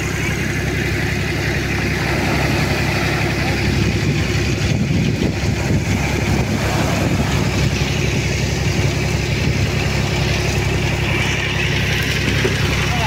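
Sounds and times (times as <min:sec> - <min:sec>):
tractor engine running: 0:00.0 - 0:13.0
waves washing on shore: 0:01.0 - 0:13.0.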